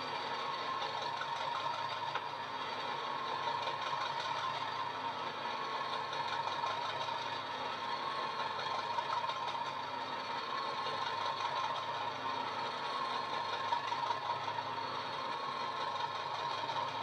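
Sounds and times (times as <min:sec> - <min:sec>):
diesel engine idling through small speaker: 0:00.0 - 0:17.0.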